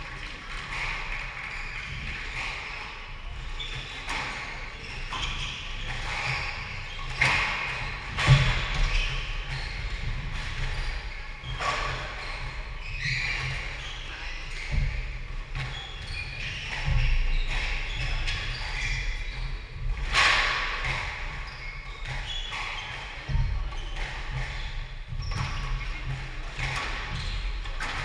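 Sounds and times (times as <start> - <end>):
squash ball hitting rackets and walls: 0.0 - 28.0.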